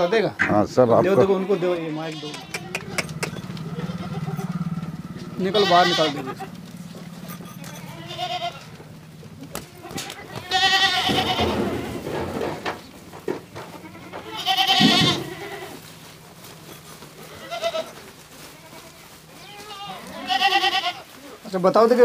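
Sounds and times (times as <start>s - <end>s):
goats bleating: 0.0s - 22.0s.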